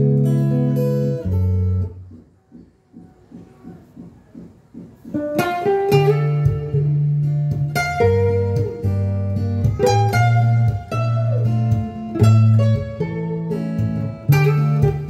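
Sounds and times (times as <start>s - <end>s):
plucked guitar notes: 0.0s - 2.3s, 2.9s - 15.0s.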